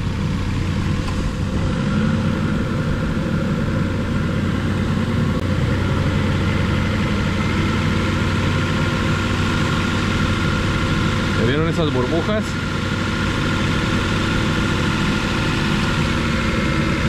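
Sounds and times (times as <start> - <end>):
pickup engine running: 0.0 - 17.0.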